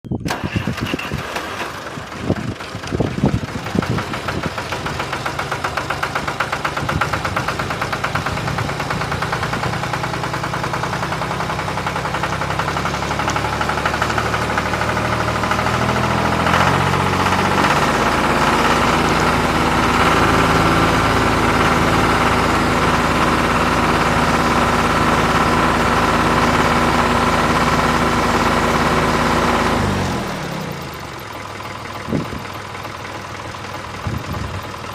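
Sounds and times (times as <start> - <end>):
engine running with knocking beat: 2.0 - 34.9.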